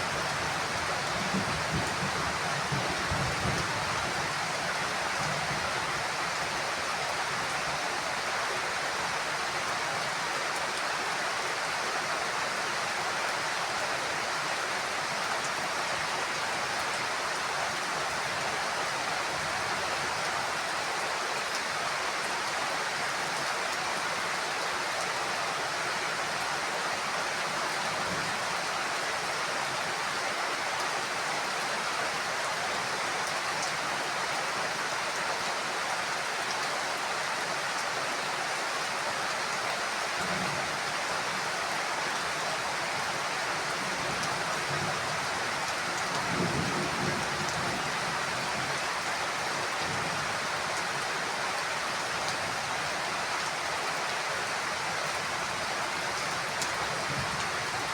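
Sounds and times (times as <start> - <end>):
heavy rain on roof: 0.0 - 57.9.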